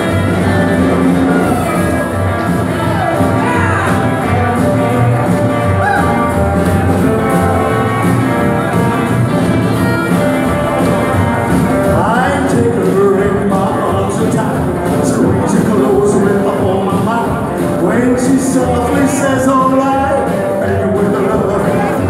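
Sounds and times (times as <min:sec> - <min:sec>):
rockabilly band playing: 0:00.0 - 0:22.0
sliding guitar lead notes: 0:00.0 - 0:22.0.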